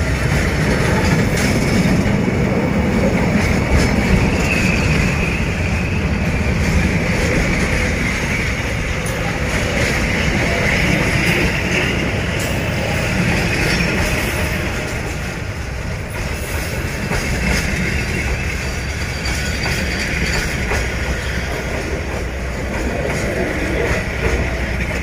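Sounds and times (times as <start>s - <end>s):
train wagons clacking: 0.0s - 25.0s
train wheels rumbling on rails: 0.0s - 25.0s.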